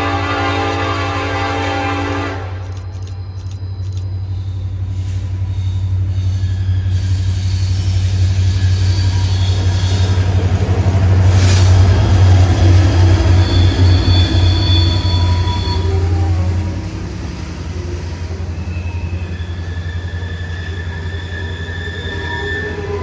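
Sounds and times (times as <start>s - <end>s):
train passing: 0.0s - 23.0s
wheels squealing on rails: 2.8s - 23.0s.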